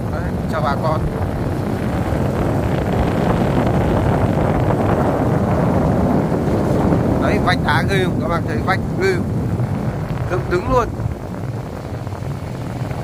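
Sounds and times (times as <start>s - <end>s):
vehicle running: 0.0s - 13.0s
wind buffeting microphone: 0.0s - 13.0s.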